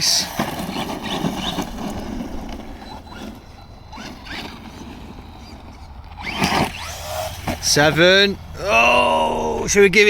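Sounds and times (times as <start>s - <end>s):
electric motor whining: 0.0s - 9.8s
tyres rustling on rough ground: 0.0s - 10.0s.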